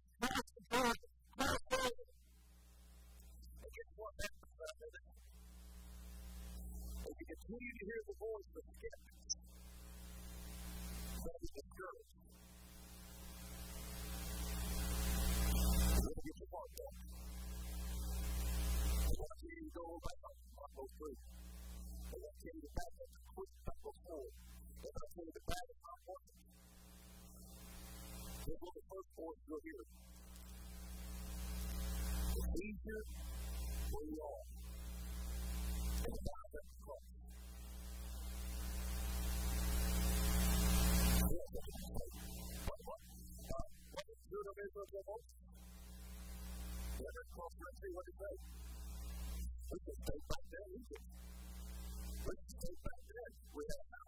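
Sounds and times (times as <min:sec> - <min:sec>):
low buzzing hum: 0:01.7 - 0:08.0, 0:08.6 - 0:24.9, 0:26.4 - 0:28.8, 0:29.8 - 0:44.0, 0:45.4 - 0:47.2, 0:48.2 - 0:49.8, 0:50.9 - 0:52.4.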